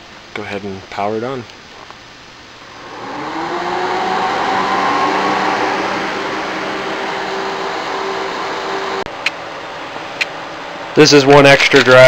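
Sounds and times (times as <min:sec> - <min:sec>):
server cooling fans whirring: 0:00.0 - 0:12.0.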